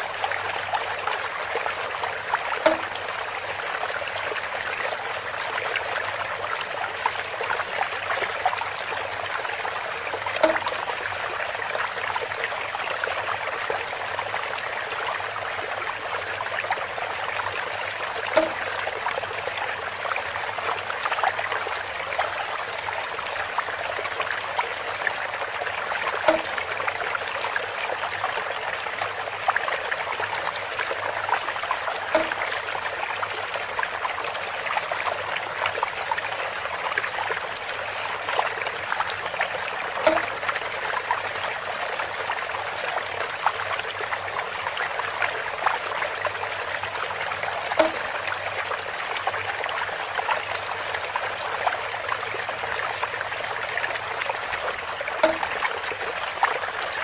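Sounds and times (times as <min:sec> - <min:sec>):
water trickling through bamboo: 0:00.0 - 0:57.0.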